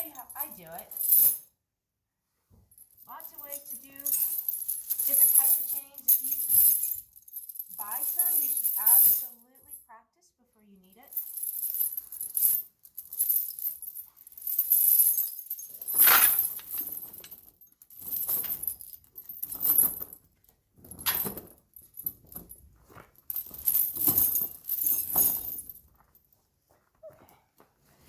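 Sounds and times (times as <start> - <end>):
steel chains jingling and clinking: 0.0 - 1.5, 2.8 - 10.0, 10.9 - 26.4.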